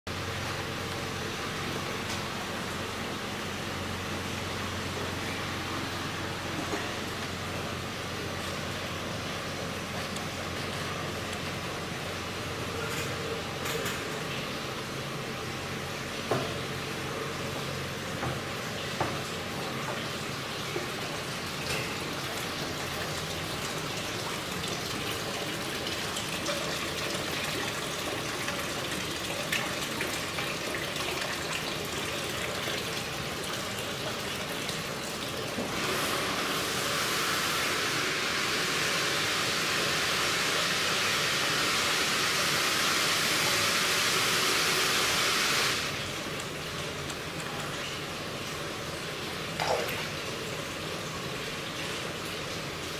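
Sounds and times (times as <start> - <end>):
water splashing into tanks: 0.1 - 52.9.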